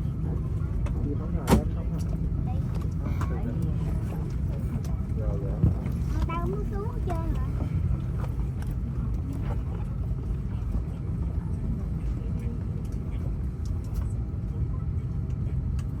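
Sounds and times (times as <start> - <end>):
faint passenger voices: 0.0 - 16.0
low cabin rumble: 0.0 - 16.0.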